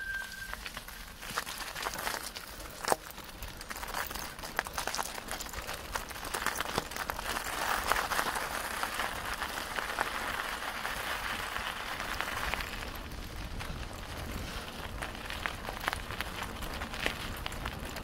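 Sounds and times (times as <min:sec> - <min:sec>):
bicycle tyres crunching on leaves: 0:00.0 - 0:18.0.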